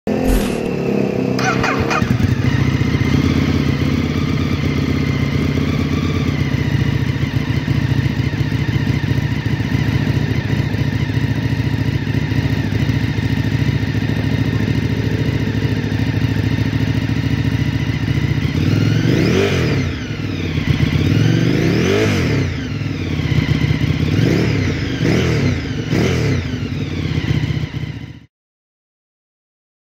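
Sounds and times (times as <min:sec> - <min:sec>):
motorcycle engine idling: 0:00.1 - 0:21.7, 0:22.3 - 0:28.2
motorcycle engine revving: 0:00.1 - 0:28.3.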